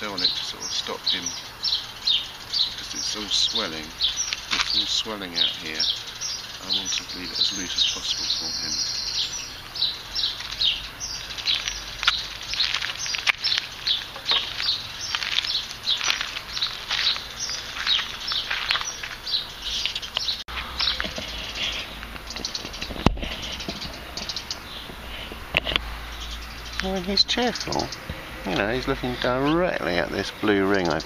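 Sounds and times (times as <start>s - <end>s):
small birds chirping and singing: 0.0s - 31.0s.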